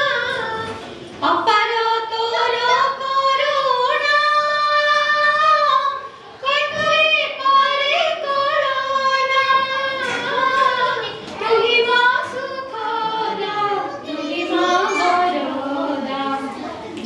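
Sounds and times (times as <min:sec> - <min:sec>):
two women singing a duet: 0:00.0 - 0:16.7.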